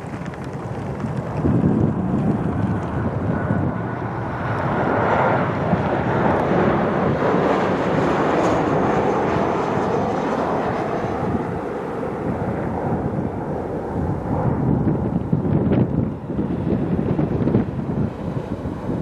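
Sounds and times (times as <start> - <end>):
faint jet whine: 0.0 - 19.0
jet engine rush: 0.0 - 19.0.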